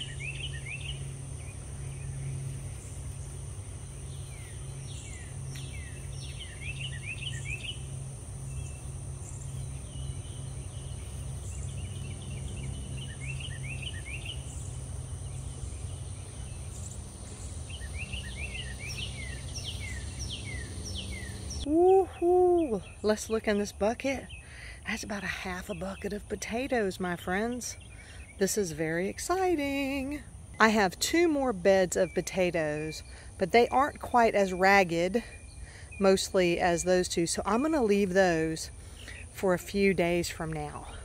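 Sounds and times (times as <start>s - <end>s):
high insect drone: 0.0s - 41.0s
low steady hum: 0.0s - 41.0s
songbirds chirping: 0.0s - 41.0s.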